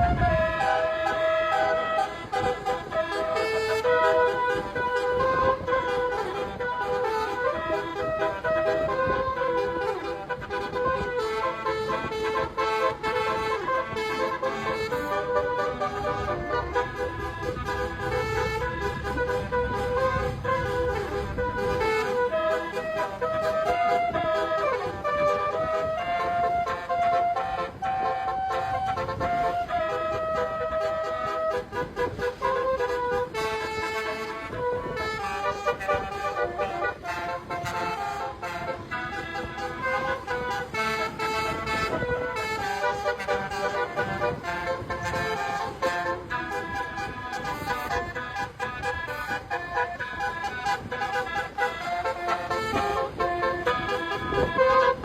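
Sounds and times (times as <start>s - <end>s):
musical air horns playing: 0.0s - 55.0s.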